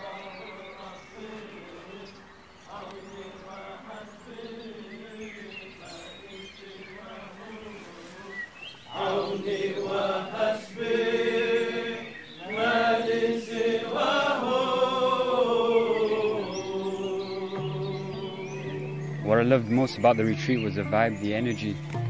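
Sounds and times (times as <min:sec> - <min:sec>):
men chanting together: 0:00.0 - 0:19.0.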